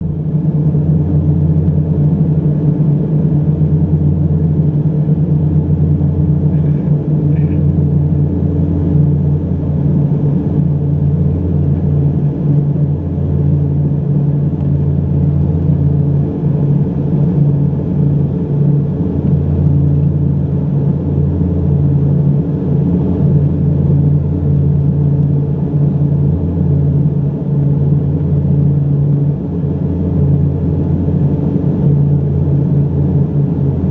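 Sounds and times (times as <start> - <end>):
turboprops droning in cabin: 0.0 - 33.9.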